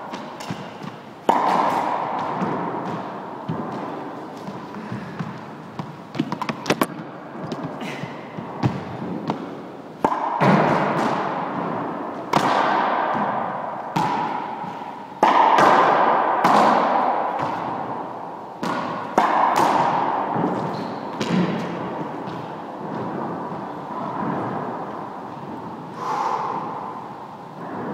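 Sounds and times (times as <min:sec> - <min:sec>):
racquet hitting rubber ball: 0:00.0 - 0:27.9
ball rebounding off walls: 0:00.1 - 0:07.8, 0:08.4 - 0:25.6.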